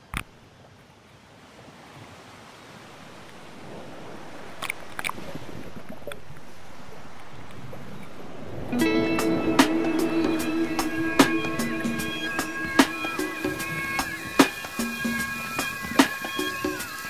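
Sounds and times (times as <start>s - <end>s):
water sloshing and bubbling: 1.2s - 17.0s.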